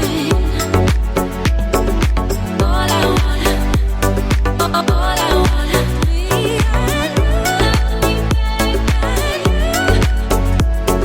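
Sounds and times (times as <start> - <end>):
dance music with heavy bass: 0.0 - 11.0.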